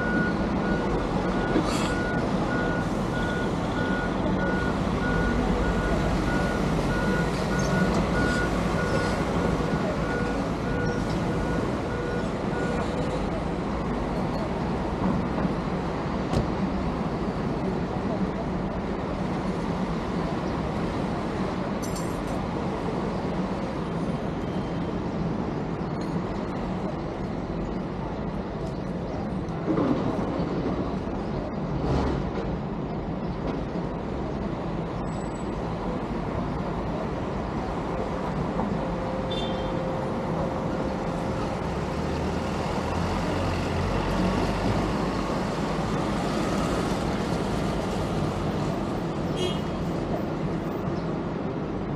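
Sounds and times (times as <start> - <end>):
road vehicle noise: 0.0 - 51.9.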